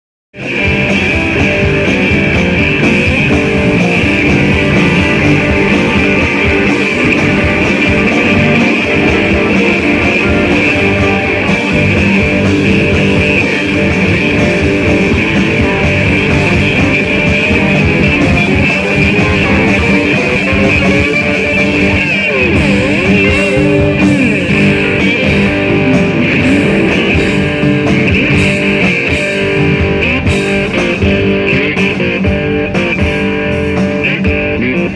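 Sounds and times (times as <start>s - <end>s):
electric guitar bending notes: 0.4s - 34.9s
live rock band playing: 0.4s - 34.9s.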